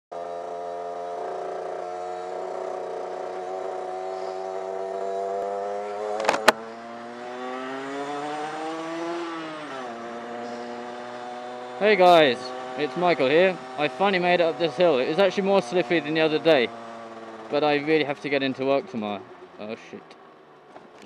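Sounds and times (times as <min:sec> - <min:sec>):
motorcycle engine running: 0:00.2 - 0:21.0.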